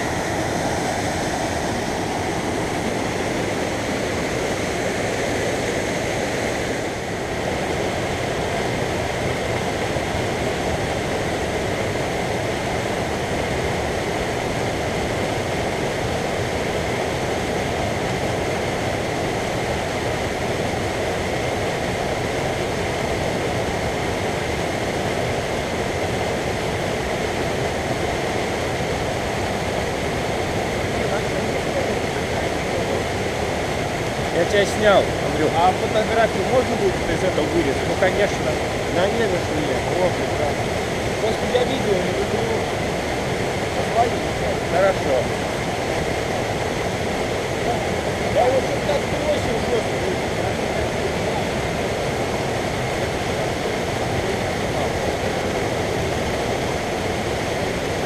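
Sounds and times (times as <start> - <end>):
mountain stream rushing over rocks: 0.0 - 58.0.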